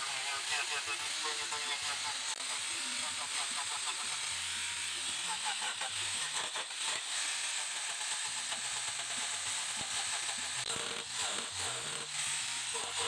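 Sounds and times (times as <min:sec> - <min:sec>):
angle grinder grinding wood: 0:00.0 - 0:13.0.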